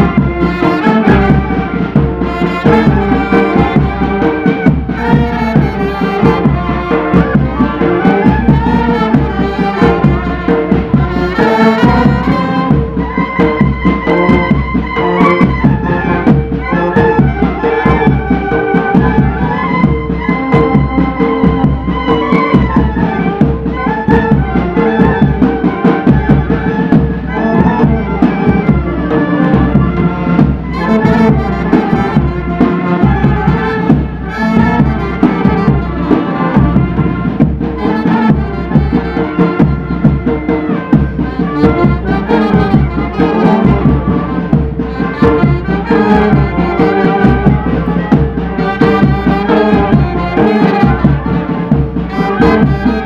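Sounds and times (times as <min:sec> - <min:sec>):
brass band playing: 0:00.0 - 0:53.0.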